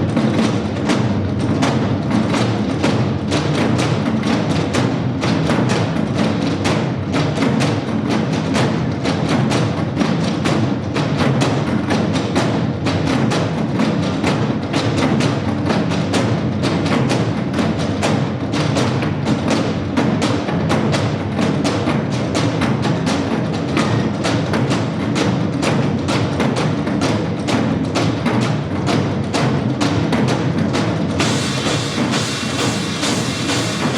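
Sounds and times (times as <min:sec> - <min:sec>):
drum ensemble beating drums: 0:00.0 - 0:33.9.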